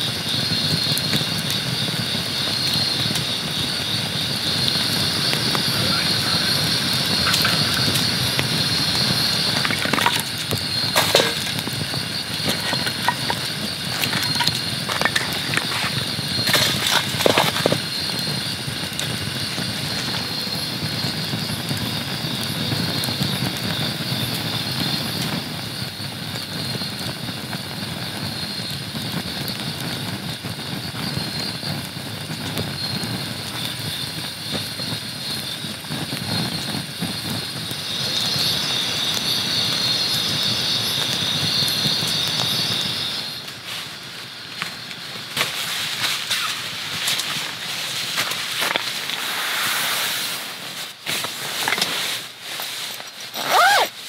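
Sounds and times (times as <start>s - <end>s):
fire popping: 0.0s - 54.0s
night insects chirping: 0.0s - 54.0s
wood fire crackling: 0.0s - 54.0s.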